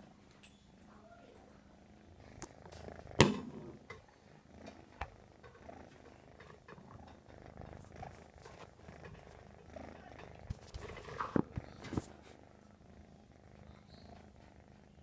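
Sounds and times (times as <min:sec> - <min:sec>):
kitten purring: 0:00.5 - 0:15.0.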